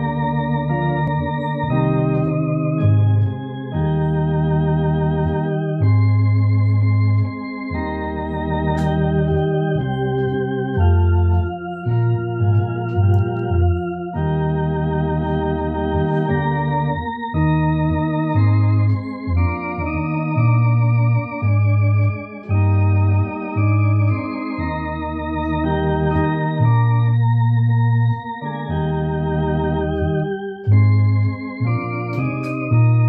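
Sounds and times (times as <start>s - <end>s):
electronic organ playing a hymn: 0.0s - 33.0s.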